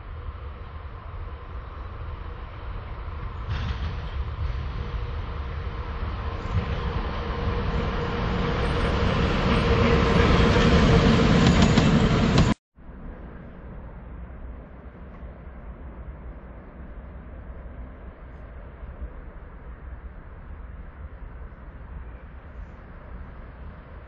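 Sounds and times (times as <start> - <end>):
locomotive hum: 0.0 - 24.0.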